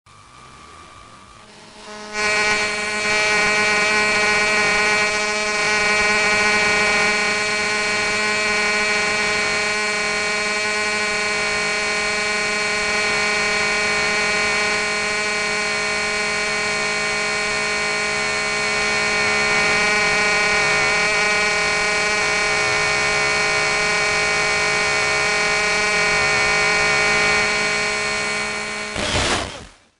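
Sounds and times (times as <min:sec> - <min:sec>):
electrical static buzz: 0:00.1 - 0:29.9.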